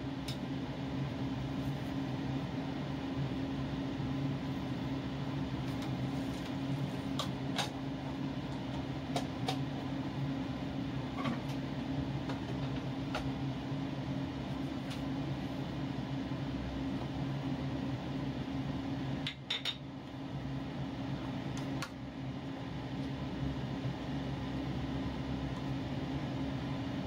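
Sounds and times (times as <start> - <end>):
appliance or fan humming: 0.0 - 27.0.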